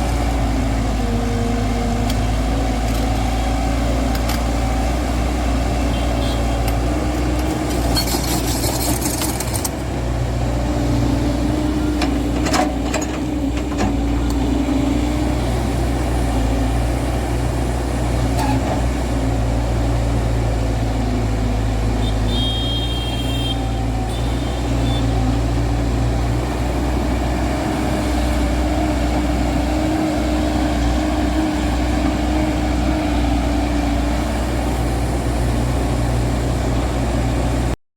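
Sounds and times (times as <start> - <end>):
excavator diesel engine running: 0.0 - 37.8.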